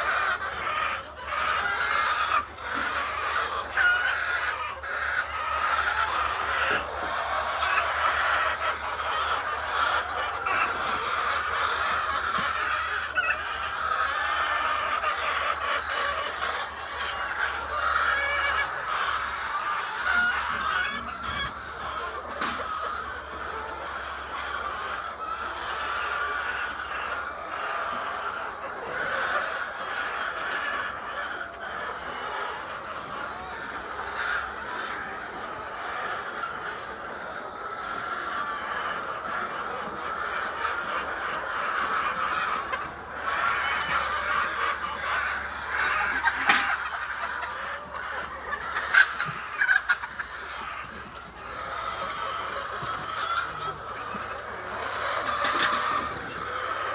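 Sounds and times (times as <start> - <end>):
hens clucking: 0.0 - 56.9.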